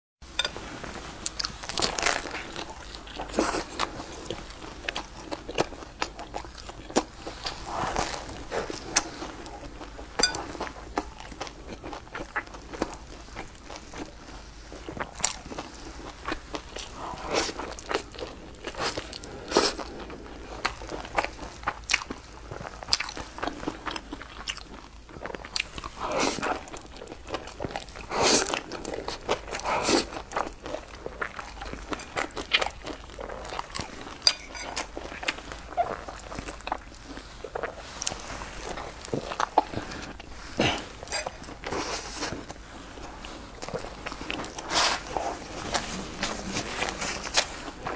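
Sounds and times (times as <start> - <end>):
chewing food: 0.4 - 47.9.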